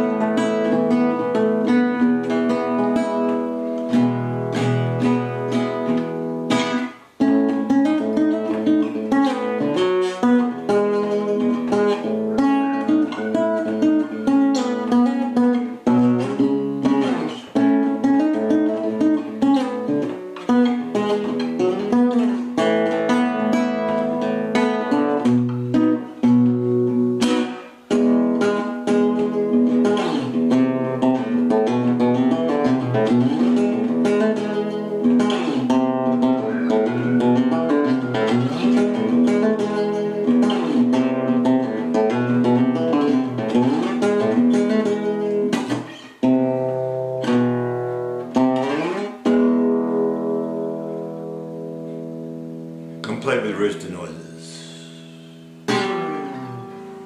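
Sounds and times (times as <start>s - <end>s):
classical guitar fingerstyle: 0.0s - 57.0s.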